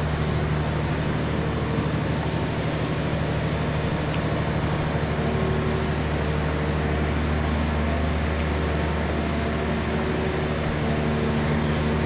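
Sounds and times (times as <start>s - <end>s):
diesel engine and hydraulics droning: 0.0s - 12.0s.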